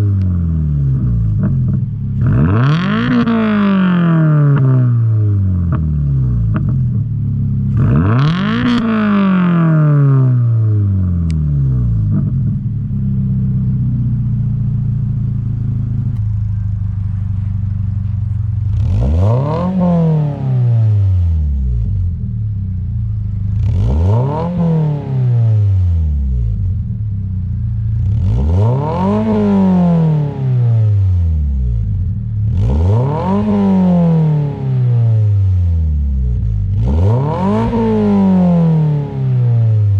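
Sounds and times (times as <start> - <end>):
car engine revving from idle: 0.0 - 39.9.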